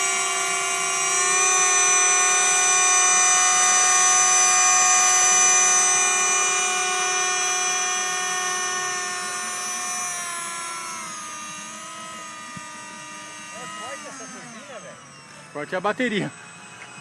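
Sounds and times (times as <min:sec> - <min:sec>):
electric ducted fans whining: 0:00.0 - 0:17.0.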